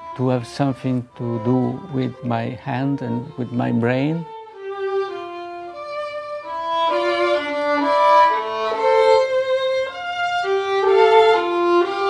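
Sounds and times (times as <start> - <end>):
solo violin melody: 0.0 - 12.0.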